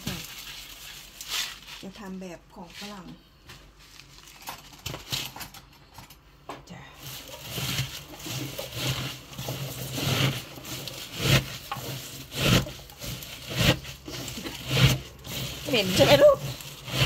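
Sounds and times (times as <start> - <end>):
hands squeezing leaves in sink: 0.0 - 5.2, 6.9 - 17.0.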